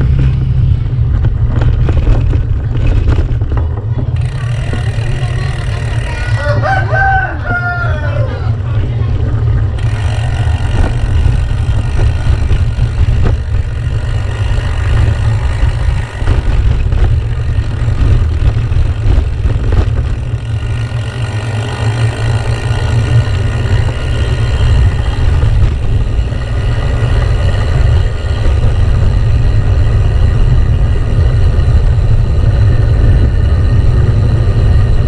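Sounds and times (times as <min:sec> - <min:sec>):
bike tyres rolling over cobbles: 0:00.0 - 0:07.9, 0:08.5 - 0:35.0
bike jolts: 0:00.0 - 0:35.0
wind on microphone: 0:00.0 - 0:35.0.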